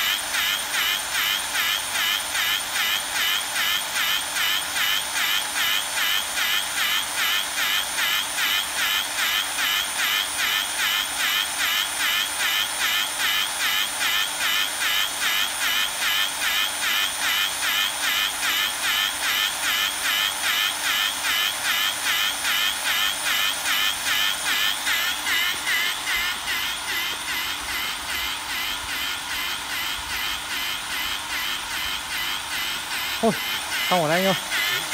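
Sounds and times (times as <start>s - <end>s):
pipe bevelling machine motor whine: 0.0s - 34.9s.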